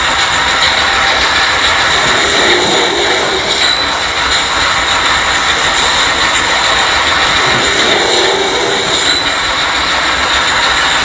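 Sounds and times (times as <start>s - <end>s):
machinery rushing din: 0.0s - 11.0s.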